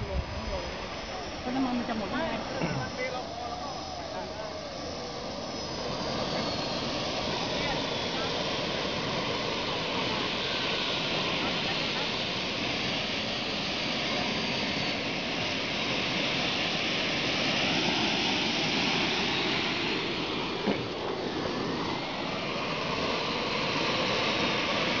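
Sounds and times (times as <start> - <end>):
model jet engine rush: 0.0 - 25.0.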